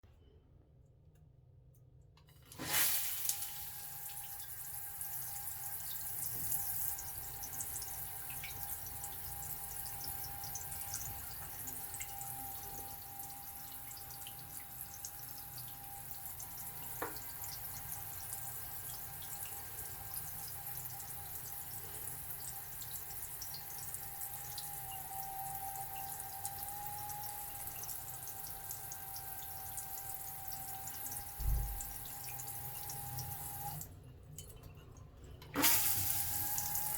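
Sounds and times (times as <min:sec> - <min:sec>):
shower water running: 0:02.4 - 0:33.9, 0:35.5 - 0:36.9.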